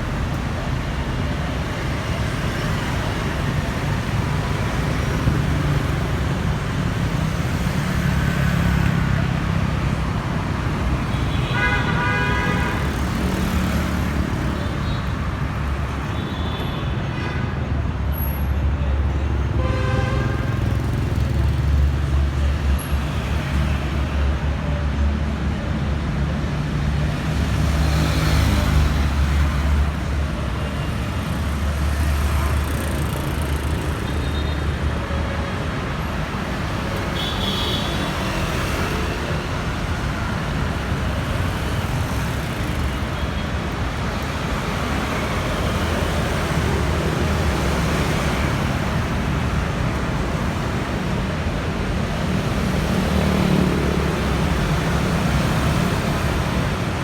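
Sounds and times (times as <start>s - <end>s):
traffic engines rumbling: 0.0s - 57.0s.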